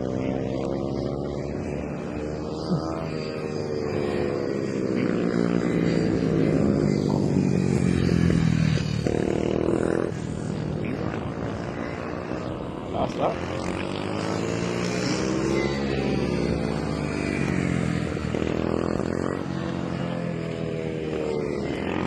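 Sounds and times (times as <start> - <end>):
motorcycles revving: 0.0 - 22.0.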